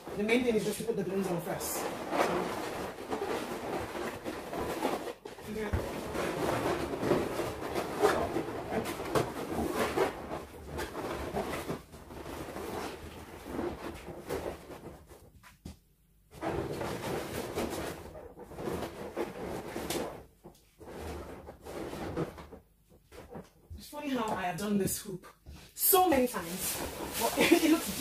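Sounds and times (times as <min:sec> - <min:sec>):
balloons squeaking and rubbing: 0:00.0 - 0:15.3, 0:16.3 - 0:24.6, 0:25.8 - 0:28.0.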